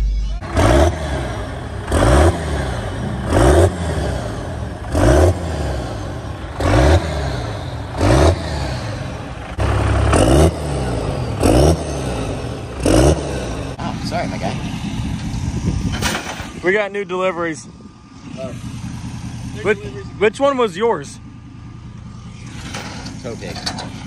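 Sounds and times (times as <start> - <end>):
diesel engine revving: 0.0 - 24.0.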